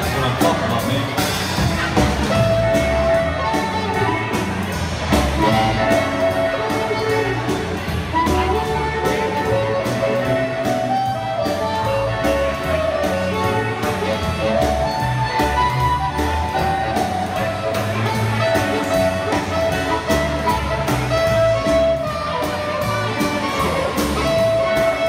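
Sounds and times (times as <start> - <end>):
harmonica melody: 0.0 - 25.0
swing band playing: 0.0 - 25.0.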